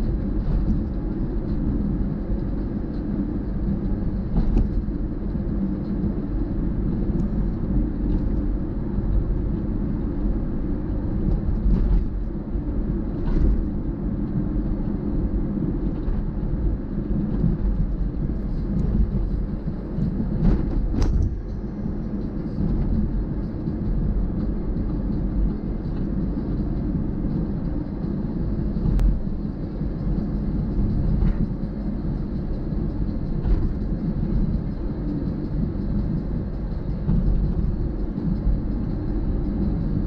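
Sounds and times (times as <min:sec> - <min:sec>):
vehicle rumble on road: 0:00.0 - 0:40.0.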